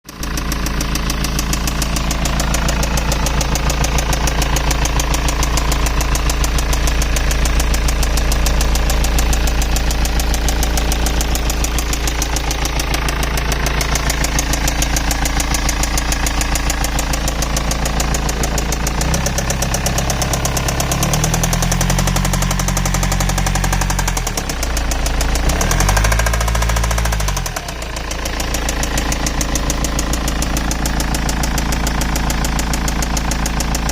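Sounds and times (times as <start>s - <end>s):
diesel engine knocking: 0.1s - 33.9s.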